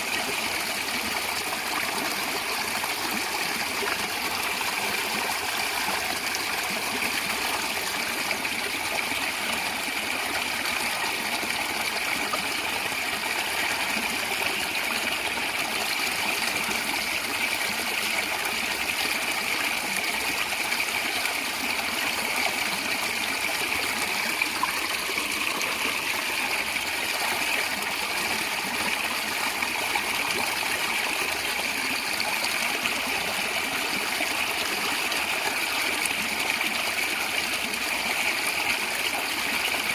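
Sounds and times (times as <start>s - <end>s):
stream gurgling and trickling: 0.0s - 39.9s.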